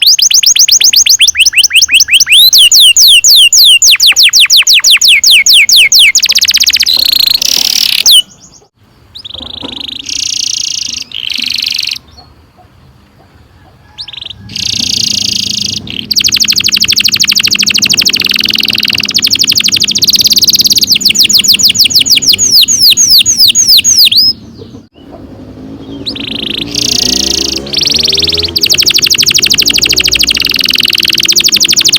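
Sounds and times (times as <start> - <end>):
canary singing rolling trills: 0.0 - 31.9.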